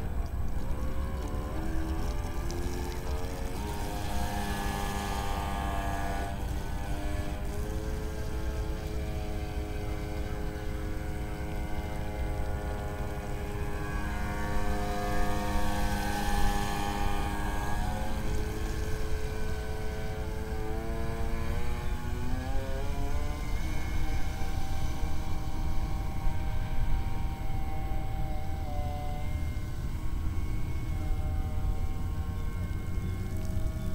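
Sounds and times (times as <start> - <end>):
electric boat motor whining: 0.0 - 33.9.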